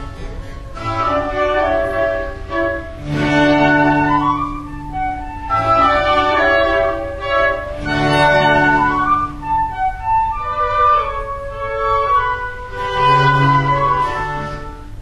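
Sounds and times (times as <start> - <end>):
strings and flute melody: 0.0 - 15.0.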